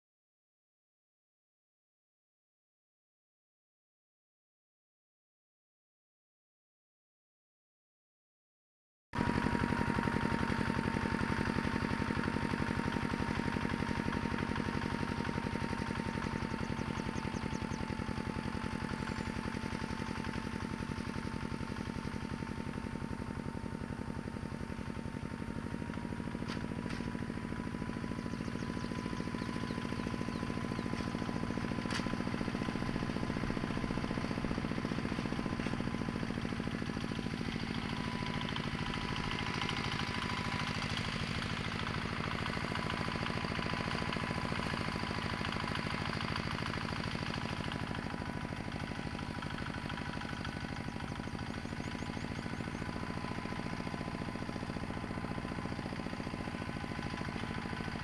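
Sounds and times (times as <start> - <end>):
small engine running: 9.2 - 58.0.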